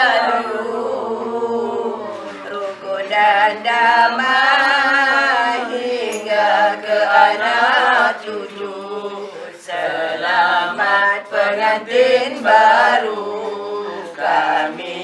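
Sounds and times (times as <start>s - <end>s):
group of people chanting in unison: 0.0s - 15.0s.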